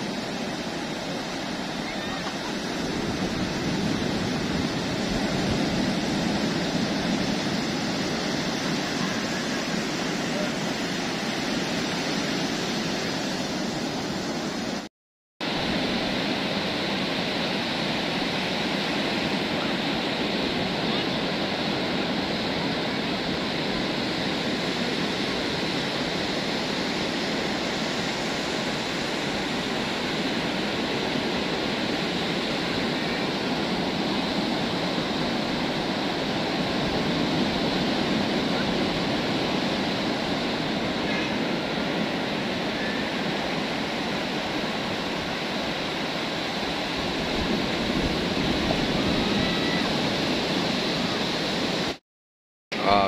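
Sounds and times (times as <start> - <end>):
surf breaking on a beach: 0.0 - 52.0.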